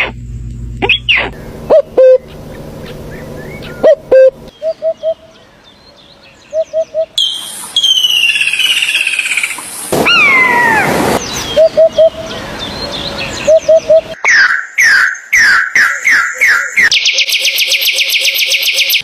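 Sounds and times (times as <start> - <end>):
high animal calls and chirps: 0.8 - 5.6, 6.5 - 19.0.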